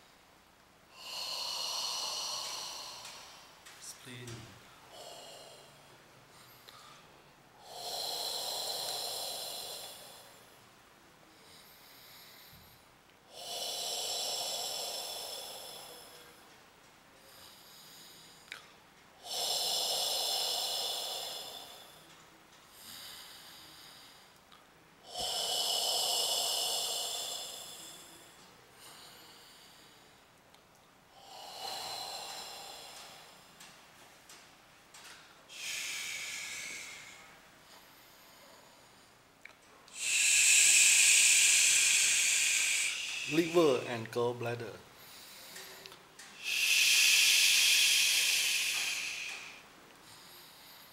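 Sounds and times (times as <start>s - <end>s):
slow deep breathing: 0.0s - 50.9s.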